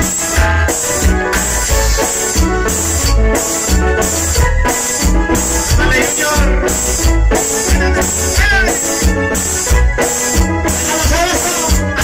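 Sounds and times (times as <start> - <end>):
heavy bass line: 0.0 - 12.0
live cumbia band playing: 0.0 - 12.0.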